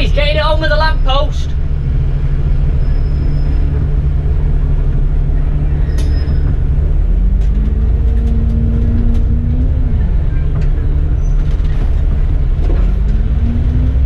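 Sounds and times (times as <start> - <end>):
bus engine rumbling: 0.0 - 14.0
drivetrain whine: 0.0 - 14.0.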